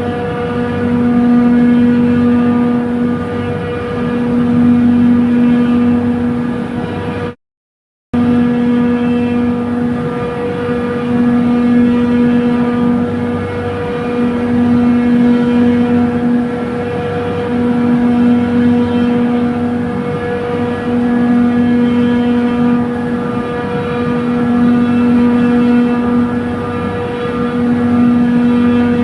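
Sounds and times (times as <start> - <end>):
compressor humming: 0.0 - 7.4, 8.2 - 29.0
low pulsing tone: 0.0 - 7.4, 8.2 - 29.0.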